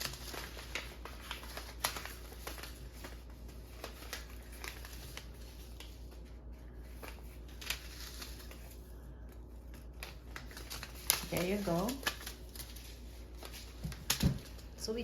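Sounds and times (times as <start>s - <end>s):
paper crinkling: 0.0s - 15.0s.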